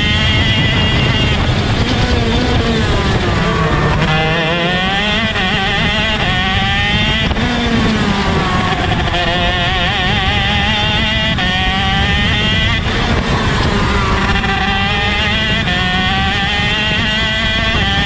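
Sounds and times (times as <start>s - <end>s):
kart engine revving: 0.0s - 18.0s.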